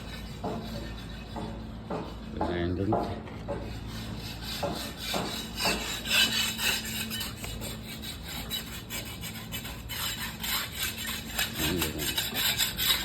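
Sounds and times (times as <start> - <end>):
rough gritty scraping: 0.0 - 13.0.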